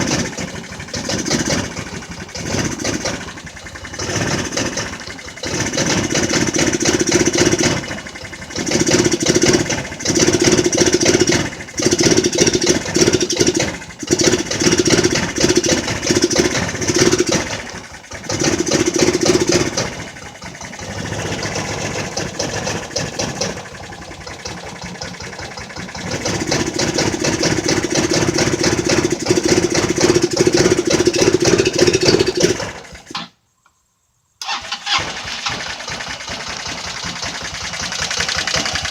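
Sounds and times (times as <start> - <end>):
scooter engine revving: 0.0 - 33.3, 34.4 - 38.9.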